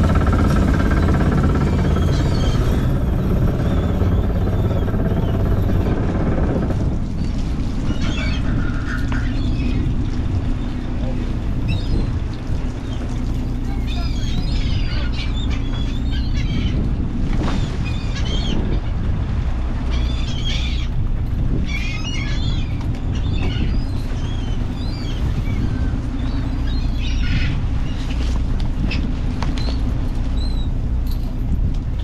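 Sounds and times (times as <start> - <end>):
gulls calling: 0.0 - 31.4
boat engine drone: 0.0 - 32.0.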